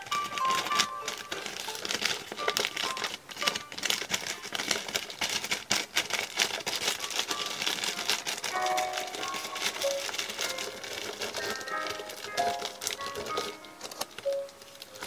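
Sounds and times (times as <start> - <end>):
wrapping paper crinkling: 0.0 - 15.0.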